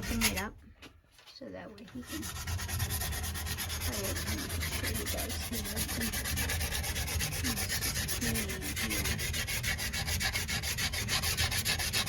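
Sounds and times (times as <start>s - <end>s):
sandpaper rubbing on a pipe: 0.0s - 0.5s, 1.9s - 12.0s.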